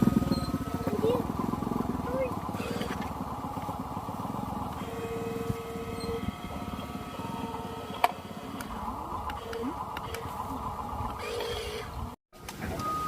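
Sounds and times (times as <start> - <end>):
held electronic tone: 0.0 - 12.0
electric motor and gear buzz: 0.0 - 12.2.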